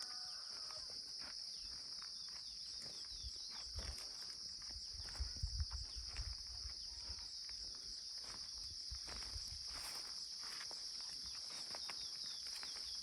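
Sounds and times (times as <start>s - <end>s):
footsteps: 0.0s - 13.0s
high-pitched insect chorus: 0.0s - 13.0s.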